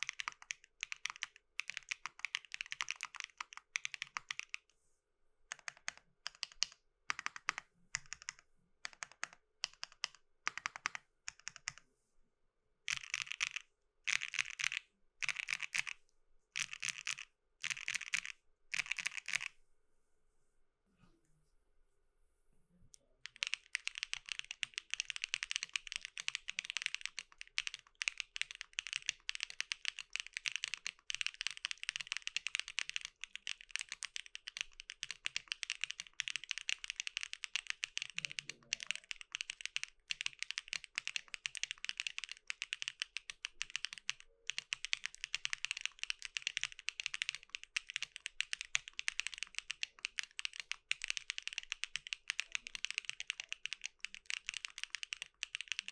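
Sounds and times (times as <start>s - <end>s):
fast mechanical keyboard typing: 0.0s - 4.6s, 5.5s - 11.8s, 12.9s - 16.0s, 16.6s - 19.5s, 23.2s - 55.9s.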